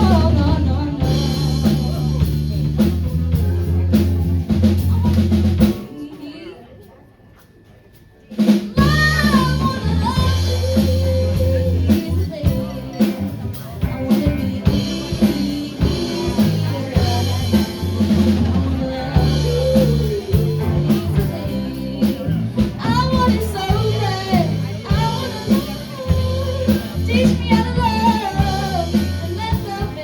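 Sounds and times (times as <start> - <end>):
bass guitar: 0.0 - 6.0, 8.4 - 30.0
drum kit: 0.0 - 6.2, 8.3 - 30.0.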